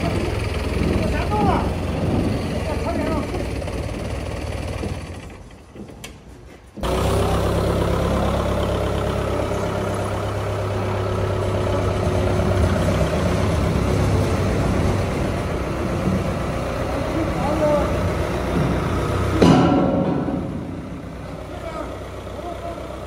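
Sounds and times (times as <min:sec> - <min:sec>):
heavy vehicle engine idling: 0:00.0 - 0:05.9, 0:06.7 - 0:23.0.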